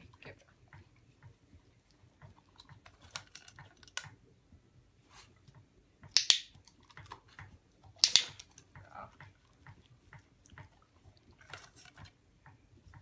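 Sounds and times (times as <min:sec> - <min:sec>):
dog chewing and licking: 0:00.0 - 0:04.3, 0:05.1 - 0:13.0.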